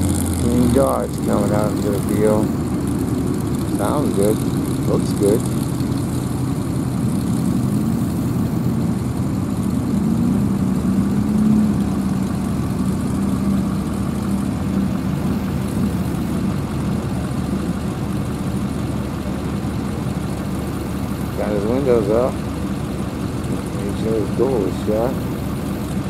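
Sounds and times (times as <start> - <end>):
truck engine running at low revs: 0.0 - 26.0.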